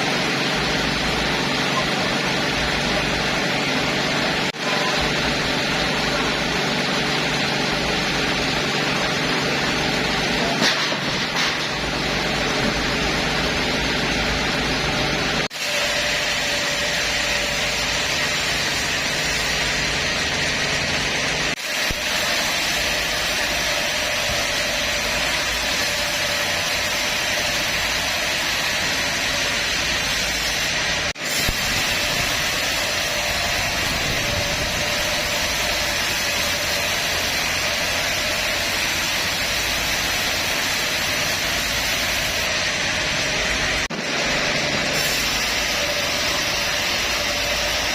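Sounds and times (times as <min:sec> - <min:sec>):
band saw running: 0:00.0 - 0:47.9.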